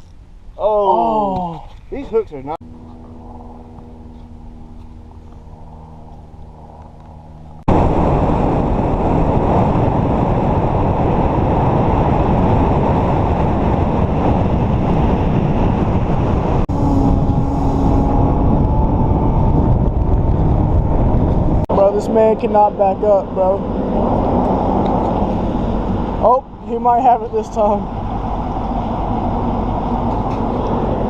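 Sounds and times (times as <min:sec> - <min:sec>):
wind rushing on microphone: 0:01.4 - 0:31.0
motorboat engine hum: 0:01.8 - 0:31.0.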